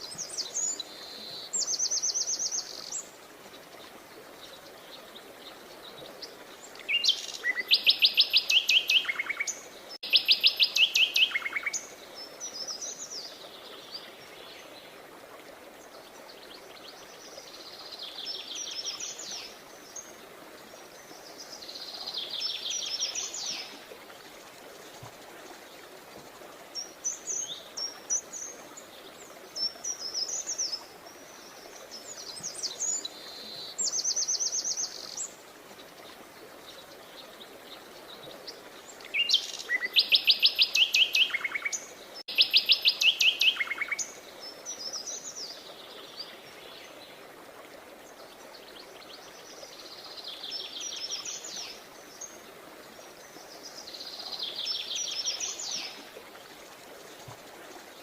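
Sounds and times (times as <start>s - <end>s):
faint outdoor hiss: 0.0s - 58.0s.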